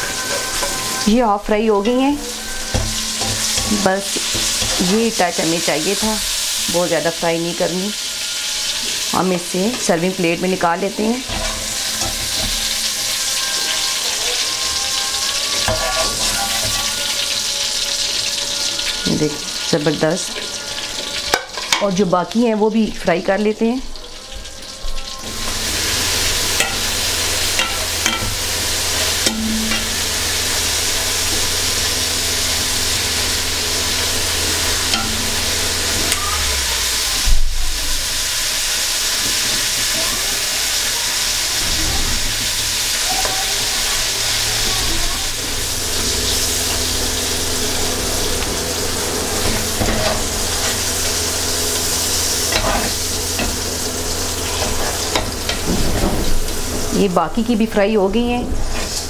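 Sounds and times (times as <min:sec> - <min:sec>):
chillies sizzling in oil: 0:00.0 - 0:59.0.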